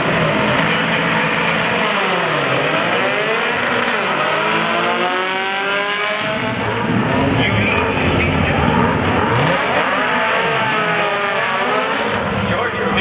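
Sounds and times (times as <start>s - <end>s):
drag car engines revving: 0.0s - 13.0s.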